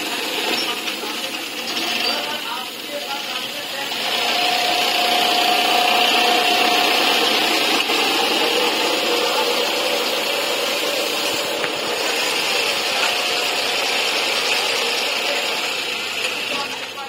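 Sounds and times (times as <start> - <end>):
sewing machine whirring: 0.0 - 17.0.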